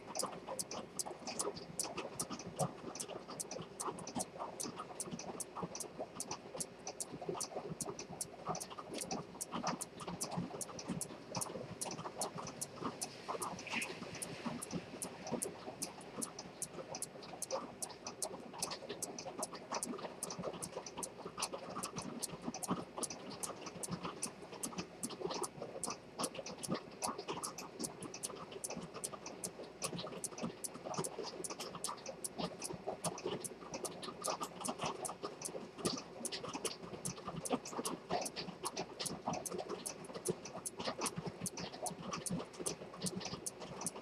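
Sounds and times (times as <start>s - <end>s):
pocket watch ticking: 0.1s - 44.0s.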